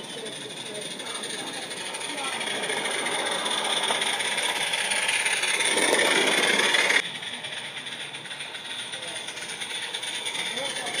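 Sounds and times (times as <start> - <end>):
hissing steam: 0.0 - 11.0
wheels rattling on track: 0.0 - 11.0.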